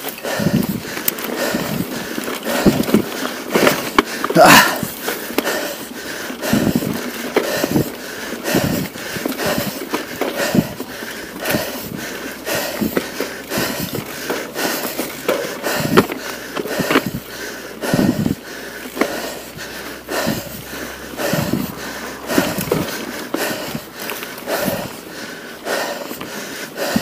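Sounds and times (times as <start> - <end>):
bike knocks and rattles: 0.0 - 27.0
bike tyres crunching on dirt: 0.0 - 27.0
rider breathing hard: 0.0 - 27.0.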